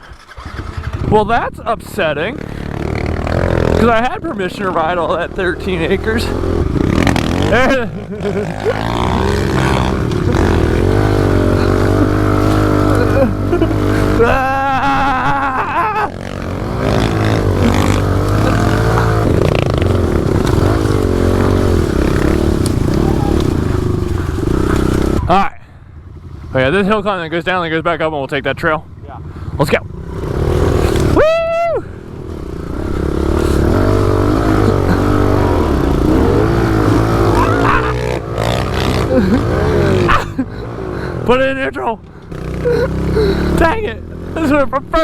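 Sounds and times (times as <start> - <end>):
pit bike engine revving: 0.0 - 45.0.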